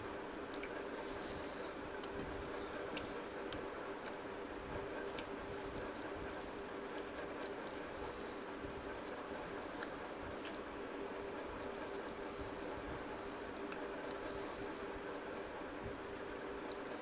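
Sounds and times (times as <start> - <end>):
steady low hum: 0.0 - 17.0
fingers squishing wet food: 0.1 - 17.0.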